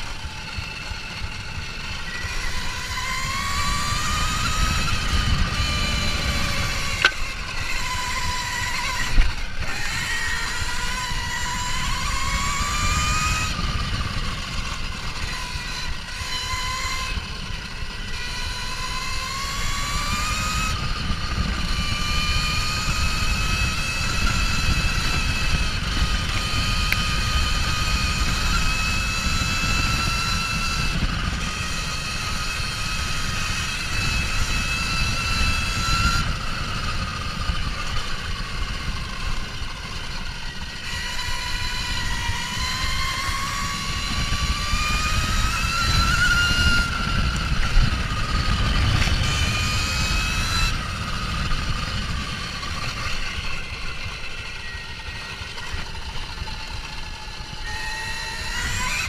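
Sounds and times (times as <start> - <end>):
electric motorbike motor whining: 0.0 - 59.0
wind rumbling on microphone: 0.0 - 59.0.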